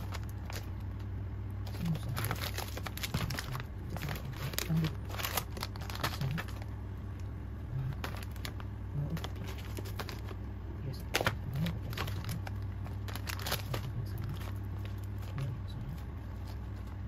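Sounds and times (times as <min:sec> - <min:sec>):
plastic packets crinkling: 0:00.0 - 0:06.7, 0:07.9 - 0:10.4, 0:11.0 - 0:15.5
steady low hum: 0:00.0 - 0:17.0.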